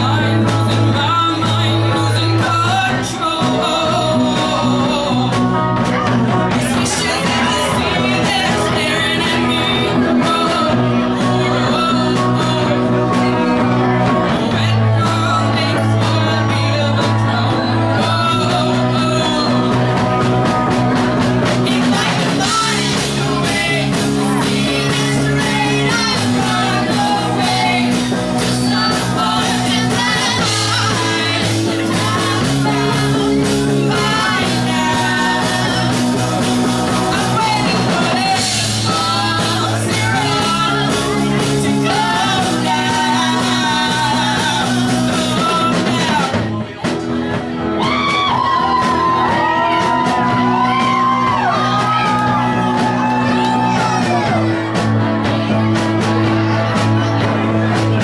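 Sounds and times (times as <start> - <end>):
person singing: 0.0 - 58.0.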